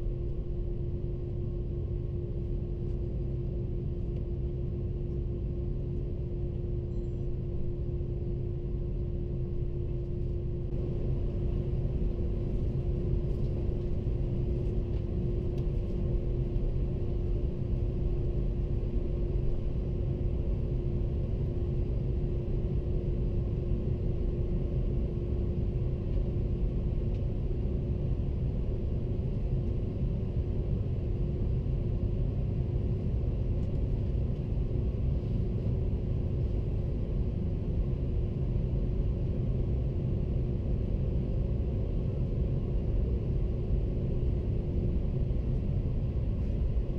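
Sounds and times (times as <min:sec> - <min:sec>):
airplane cabin rumble: 0:00.0 - 0:46.9
constant tonal hum: 0:00.0 - 0:46.9.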